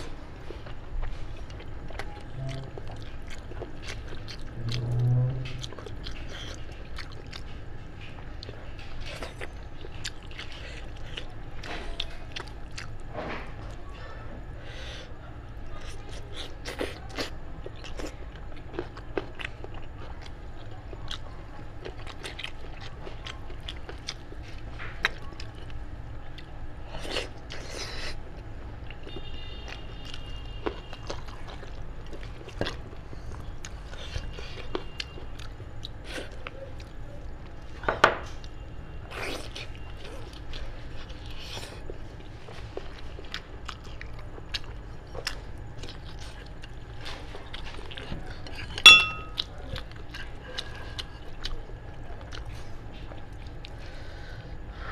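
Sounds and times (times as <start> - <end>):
wet chewing: 0.0 - 13.8, 15.7 - 54.4
steady low hum: 0.0 - 54.9.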